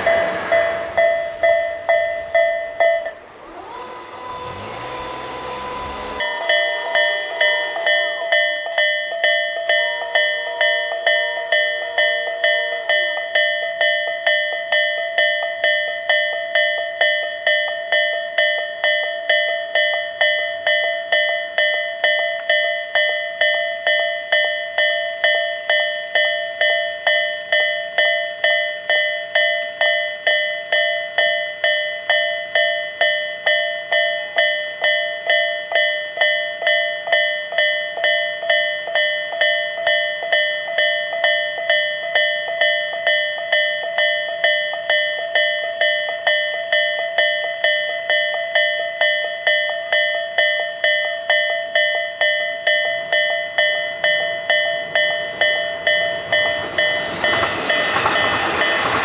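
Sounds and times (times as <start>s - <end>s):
level crossing warning bell: 0.0s - 59.0s.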